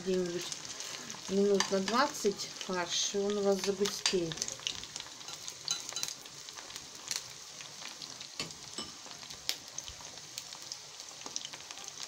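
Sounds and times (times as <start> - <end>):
meatballs sizzling in oil: 0.0 - 12.0
oil popping and crackling: 0.0 - 12.0.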